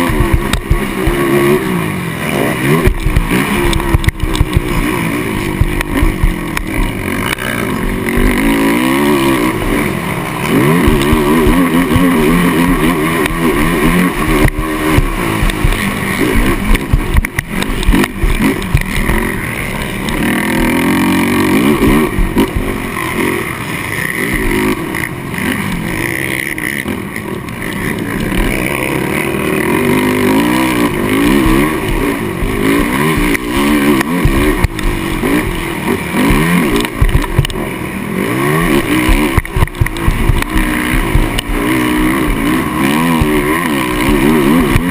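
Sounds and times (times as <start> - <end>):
quad engine revving: 0.0 - 44.9.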